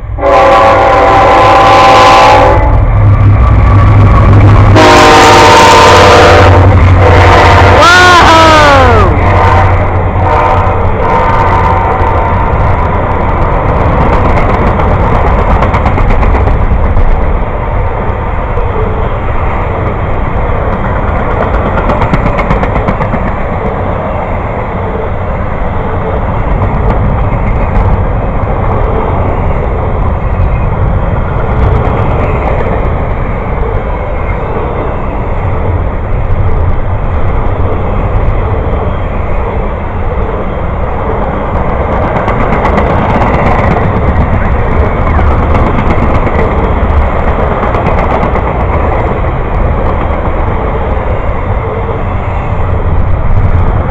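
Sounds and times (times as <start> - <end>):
train cars rumbling on track: 0.0 - 53.9.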